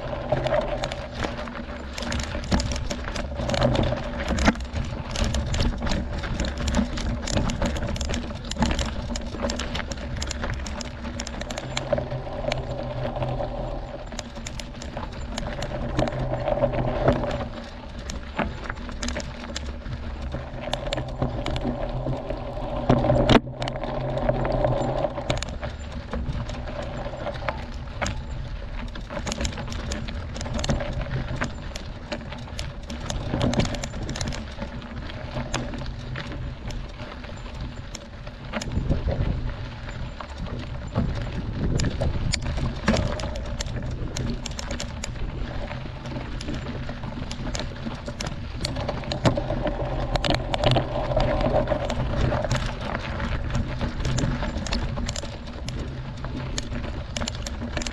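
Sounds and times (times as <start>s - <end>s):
bike rattling: 0.0s - 57.9s
wind rumble on microphone: 0.0s - 57.9s.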